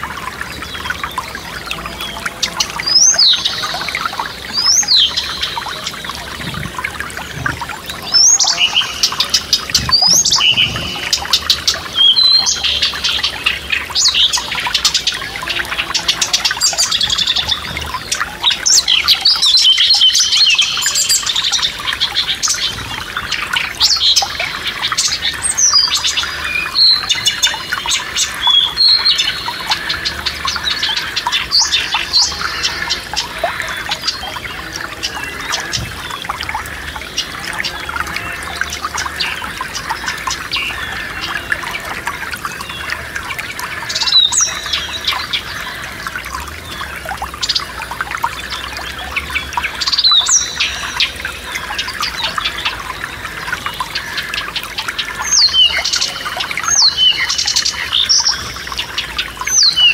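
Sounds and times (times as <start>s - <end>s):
forest stream rushing: 0.0s - 59.9s
songbirds chirping: 0.0s - 59.9s.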